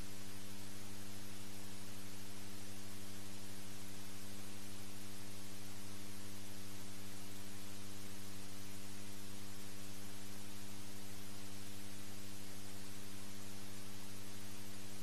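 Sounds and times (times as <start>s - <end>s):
constant hiss: 0.0s - 15.0s
low electrical hum: 0.0s - 15.0s.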